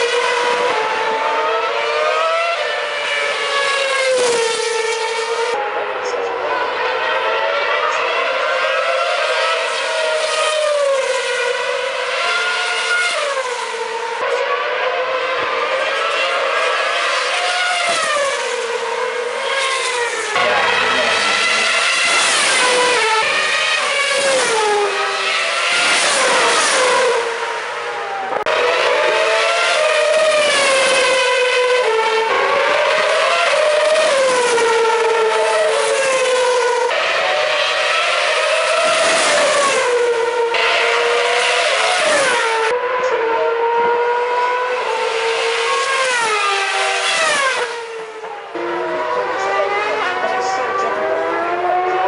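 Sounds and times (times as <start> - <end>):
racing cars passing at high revs: 0.0 - 52.0.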